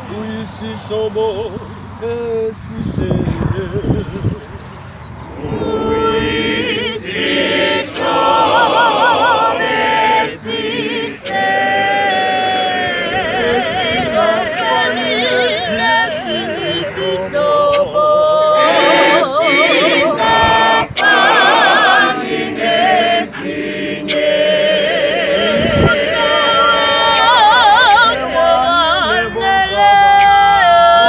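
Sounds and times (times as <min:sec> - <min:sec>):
choir singing a cappella: 0:05.2 - 0:31.0.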